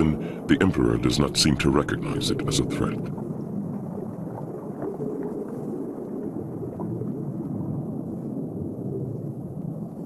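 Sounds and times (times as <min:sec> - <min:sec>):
underwater low rumble: 0:00.0 - 0:10.0.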